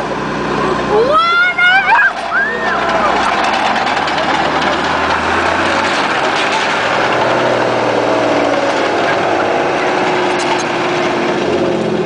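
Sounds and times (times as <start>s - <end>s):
tank engine running: 0.0s - 12.0s
tracks clanking: 0.0s - 12.0s.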